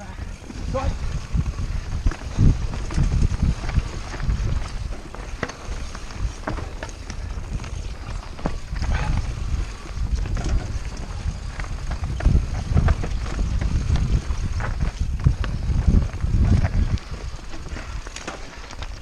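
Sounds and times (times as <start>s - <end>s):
bike knocking and rattling: 0.0s - 19.0s
wind rumble on microphone: 0.0s - 19.0s
tyres crunching over stones: 0.2s - 19.0s.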